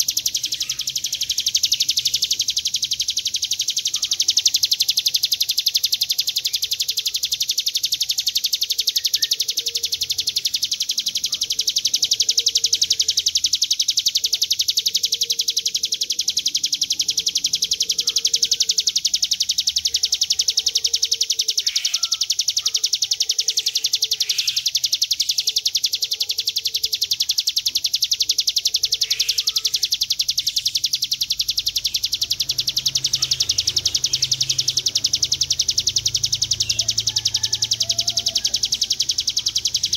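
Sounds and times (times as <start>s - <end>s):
bird high trill: 0.0s - 39.9s.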